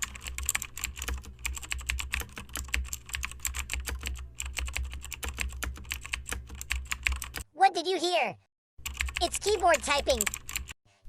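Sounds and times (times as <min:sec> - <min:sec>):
computer keyboard typing: 0:00.0 - 0:07.4, 0:08.8 - 0:10.8.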